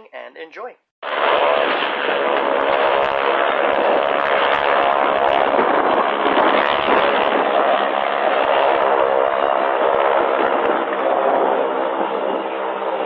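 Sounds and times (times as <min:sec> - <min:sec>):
aircraft piston engine drone: 0:01.0 - 0:13.0.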